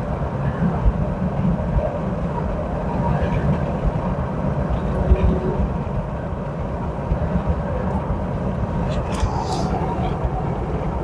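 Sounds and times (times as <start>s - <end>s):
car tyres and engine rumbling: 0.0s - 11.0s.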